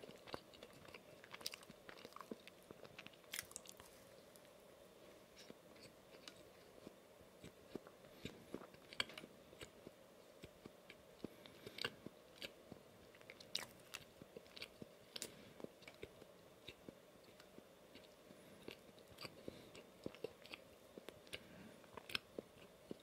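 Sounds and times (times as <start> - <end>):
chewing soft donut: 0.0 - 23.0.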